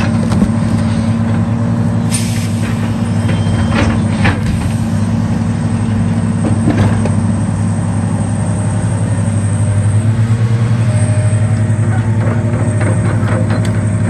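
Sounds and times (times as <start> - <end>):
excavator diesel engine: 0.0 - 14.0.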